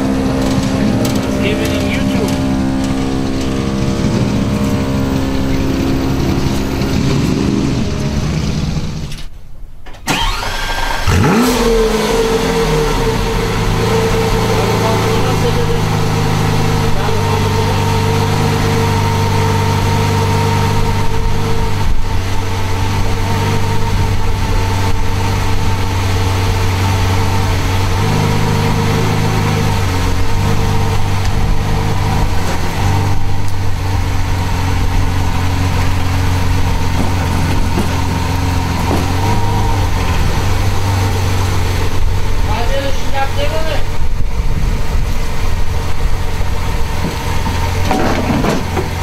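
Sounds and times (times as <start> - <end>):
sports car engine idling: 0.0 - 10.4, 11.0 - 49.0.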